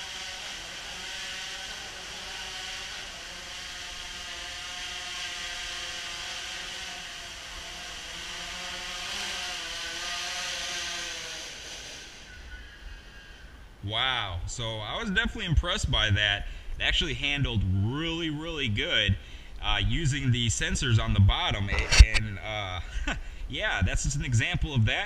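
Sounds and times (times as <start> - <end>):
quadcopter propellers buzzing: 0.0 - 13.9, 14.6 - 25.0.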